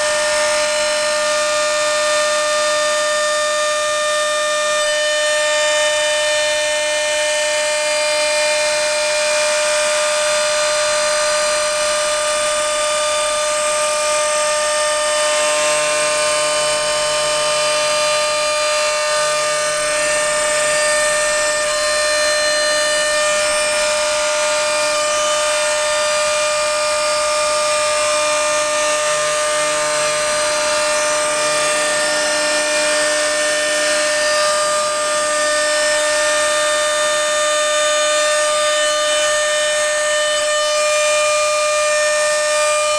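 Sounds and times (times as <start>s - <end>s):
machine cutting with high whine: 0.0s - 42.9s.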